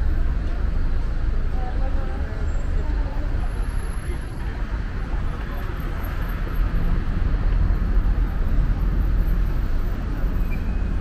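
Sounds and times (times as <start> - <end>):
street traffic passing cars: 0.0 - 11.0.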